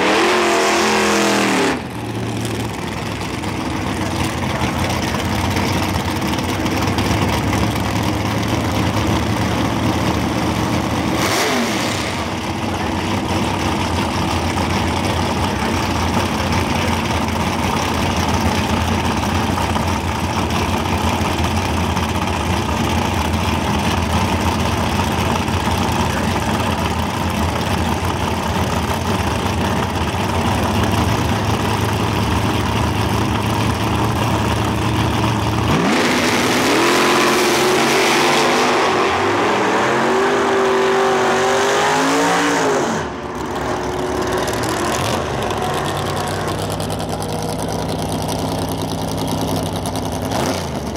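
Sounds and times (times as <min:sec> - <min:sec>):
drag car engine idling and launching: 0:00.0 - 0:41.2, 0:42.5 - 0:50.9.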